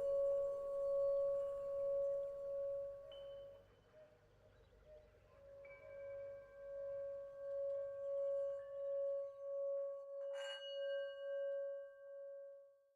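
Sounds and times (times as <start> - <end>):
singing bowl ringing tone: 0.0 - 3.7, 5.8 - 12.6.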